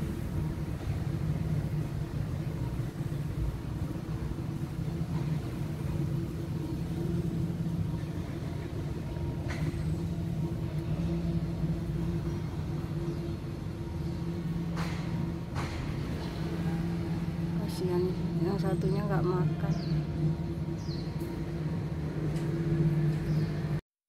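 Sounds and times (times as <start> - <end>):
low mechanical hum with rumble: 0.0 - 23.8.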